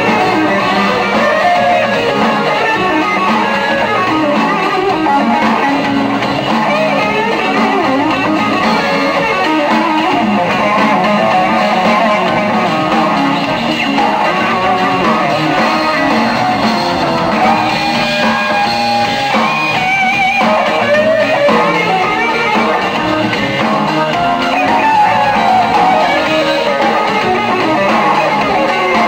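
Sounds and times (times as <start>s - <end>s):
drums: 0.0s - 29.0s
electric bass: 0.0s - 29.0s
electric guitar lead lines: 0.0s - 29.0s
organ: 0.0s - 29.0s.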